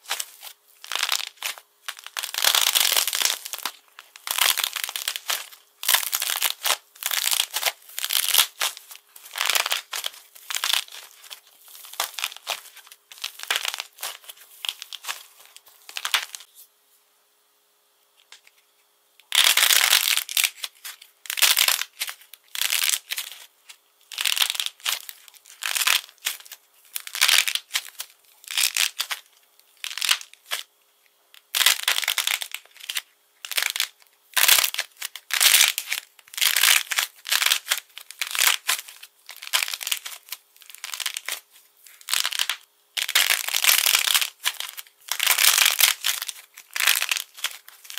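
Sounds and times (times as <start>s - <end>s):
crackling clay coating: 0.0s - 16.5s, 19.3s - 47.9s.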